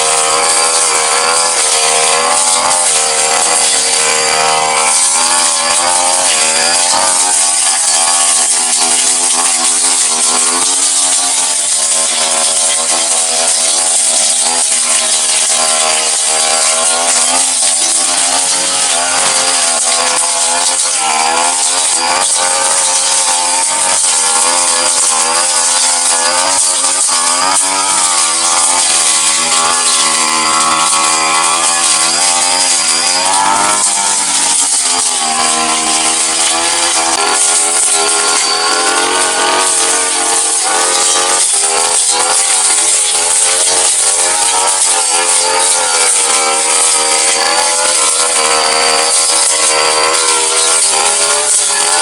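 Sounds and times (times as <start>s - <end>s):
blade cutting grass: 0.0s - 52.0s
brush cutter engine: 0.0s - 52.0s.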